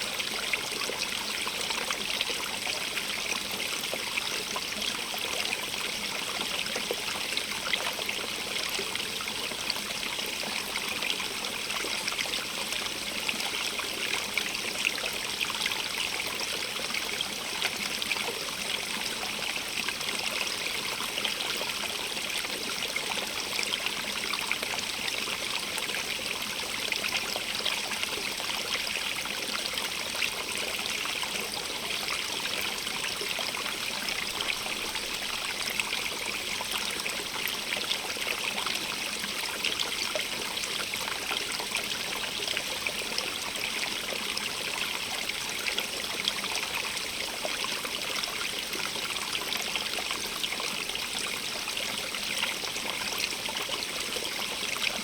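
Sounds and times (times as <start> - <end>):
stream water trickling over stones: 0.0 - 55.0.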